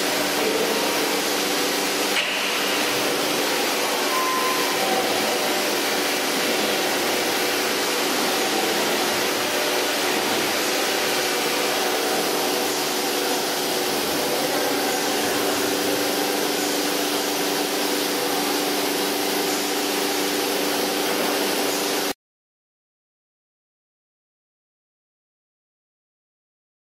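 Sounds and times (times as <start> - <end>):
machine humming: 0.0 - 22.2
machine whirring and hissing: 0.0 - 22.2.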